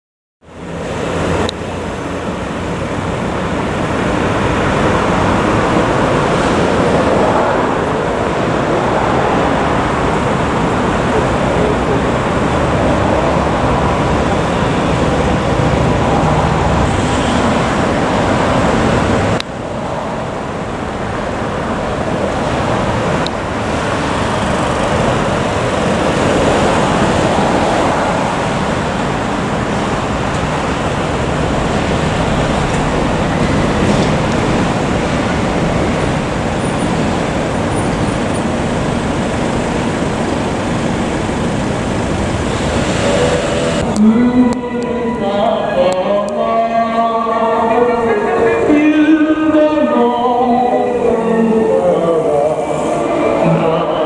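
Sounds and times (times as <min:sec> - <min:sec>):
cars and trucks passing: 0:00.4 - 0:54.0.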